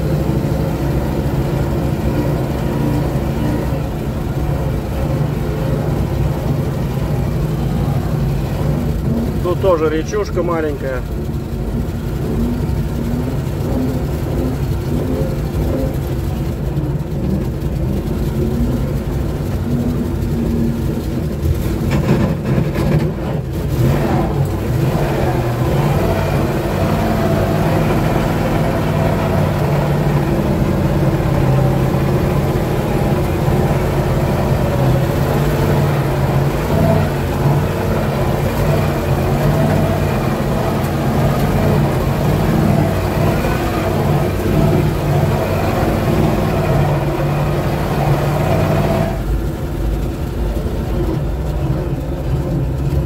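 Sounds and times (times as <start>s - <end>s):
truck engine running under load: 0.0s - 53.0s.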